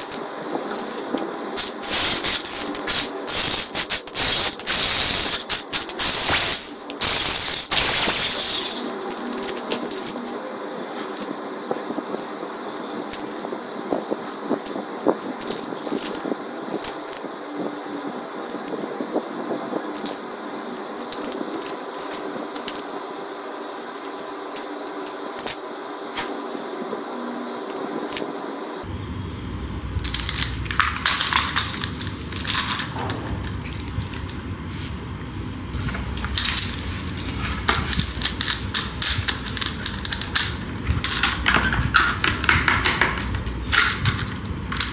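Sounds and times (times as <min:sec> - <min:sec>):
steady background hum: 0:00.0 - 0:44.9.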